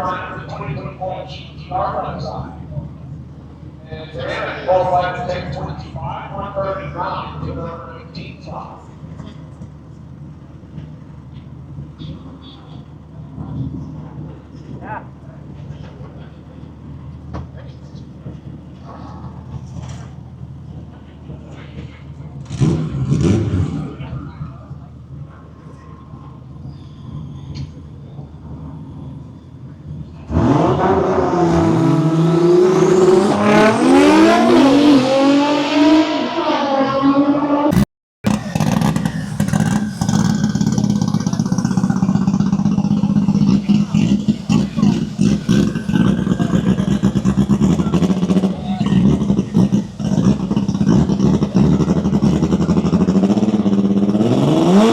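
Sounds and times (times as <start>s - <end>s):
car engine idling: 0.0s - 36.1s, 37.7s - 54.9s
car engine revving: 0.0s - 54.9s.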